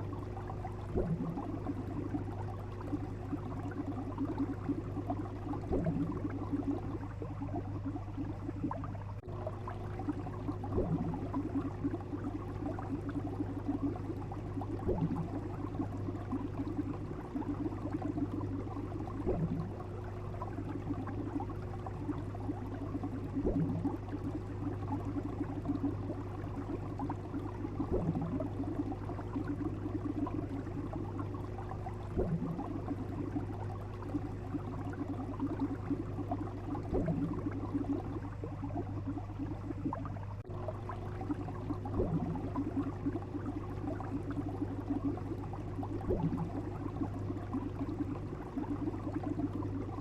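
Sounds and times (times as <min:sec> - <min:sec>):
bubbling water: 0:00.0 - 0:50.0
steady low hum: 0:00.0 - 0:50.0.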